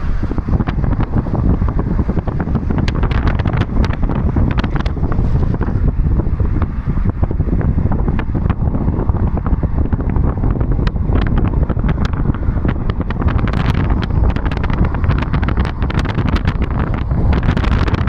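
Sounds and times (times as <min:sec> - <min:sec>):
car road and engine rumble: 0:00.0 - 0:18.0
wind rushing against microphone: 0:00.0 - 0:18.0.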